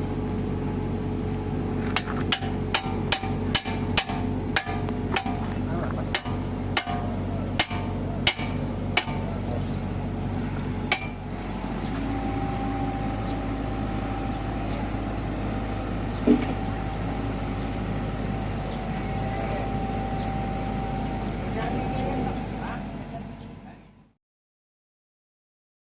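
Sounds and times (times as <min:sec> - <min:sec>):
diesel engine running: 0:00.0 - 0:24.2.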